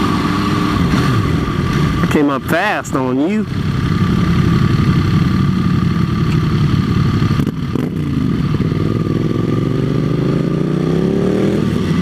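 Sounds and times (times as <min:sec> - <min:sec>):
motorcycle engine accelerating: 0:00.0 - 0:02.3, 0:03.0 - 0:12.0.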